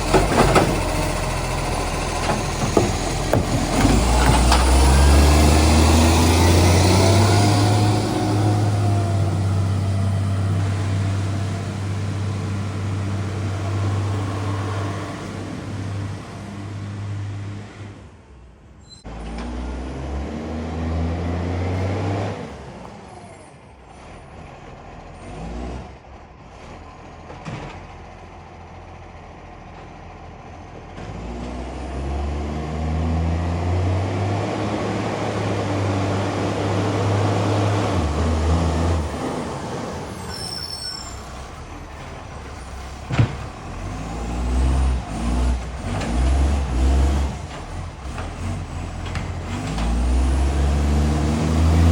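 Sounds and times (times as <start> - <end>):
diesel truck engine revving: 0.0 - 51.9.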